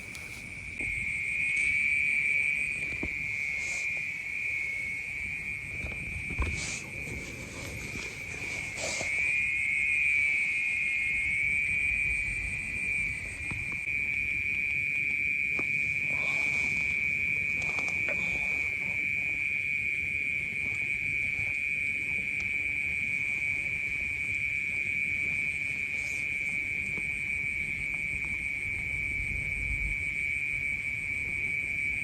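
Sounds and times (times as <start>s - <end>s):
night insects trilling: 0.0s - 32.0s.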